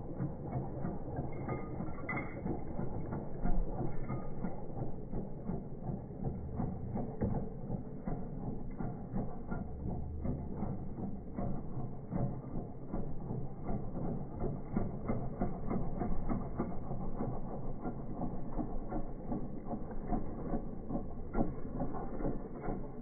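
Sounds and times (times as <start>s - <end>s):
plane engine low rumble: 0.0s - 23.0s
irregular clatter of clicks: 0.1s - 22.9s.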